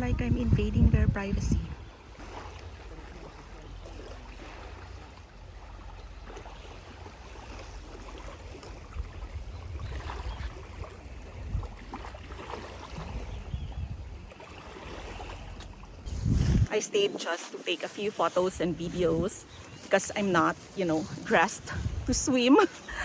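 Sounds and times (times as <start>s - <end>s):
wind rumbling on microphone: 0.0s - 23.0s
small waves washing on shore: 0.1s - 23.0s.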